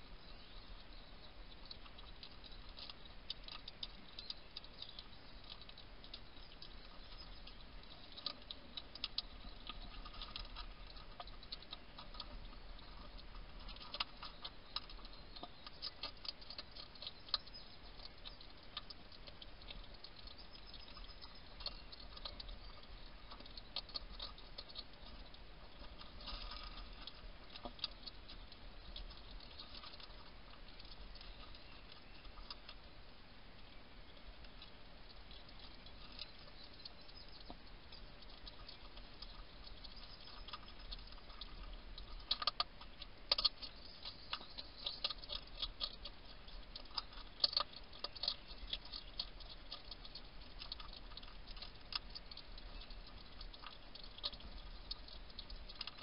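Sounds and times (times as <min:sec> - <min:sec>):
low steady hum: 0:00.0 - 0:56.0
hedgehog crunching dry food: 0:00.4 - 0:33.1, 0:33.8 - 0:56.0.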